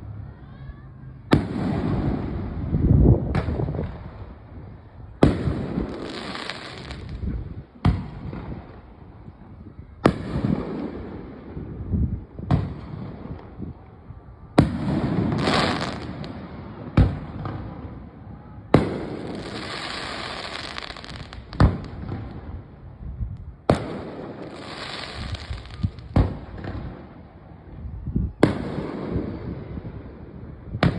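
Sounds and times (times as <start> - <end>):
fireworks bangs: 1.2 - 13.9, 14.5 - 22.9, 23.5 - 30.9
crackling hiss: 3.4 - 30.9.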